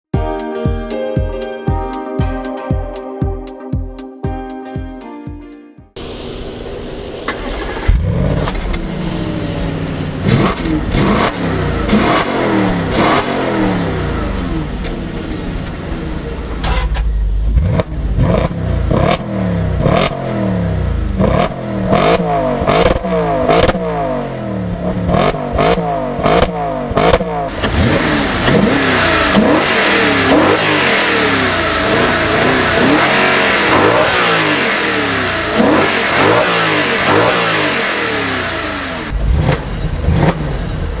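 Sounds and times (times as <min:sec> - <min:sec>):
car engine revving: 0:06.0 - 0:41.0.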